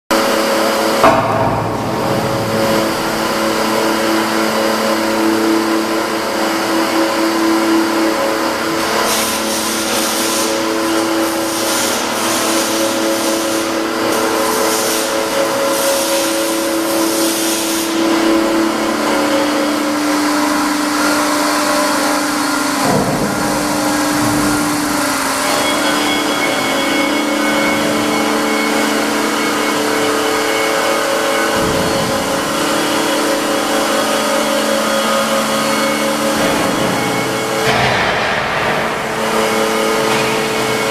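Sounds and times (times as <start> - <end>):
high machine whine: 0.1 - 40.9
milling machine humming: 0.1 - 40.9.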